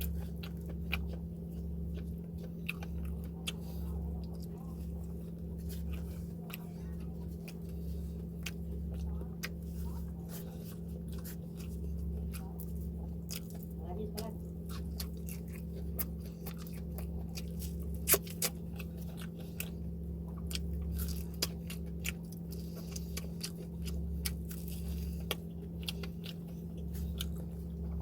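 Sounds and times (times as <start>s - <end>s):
person chewing crunchy food: 0.0s - 28.0s
steady low hum: 0.0s - 28.0s.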